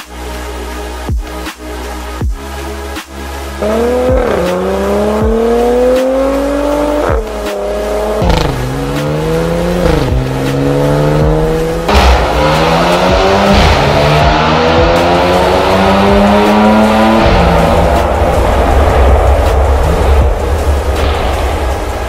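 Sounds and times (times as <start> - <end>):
car engine accelerating hard: 3.6 - 22.0.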